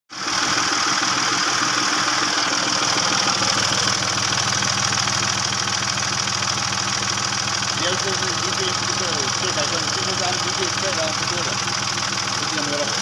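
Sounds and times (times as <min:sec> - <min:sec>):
diesel engine idling: 0:00.1 - 0:13.0.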